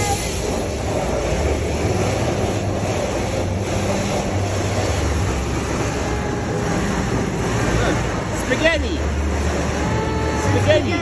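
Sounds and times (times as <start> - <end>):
car wash machinery hum: 0.0 - 11.0
spraying water: 0.0 - 11.0.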